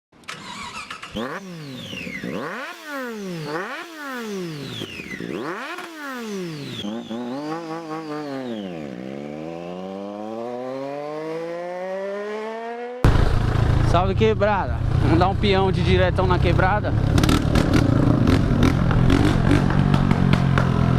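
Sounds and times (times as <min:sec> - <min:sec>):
motorcycle engine revving: 0:00.2 - 0:20.9.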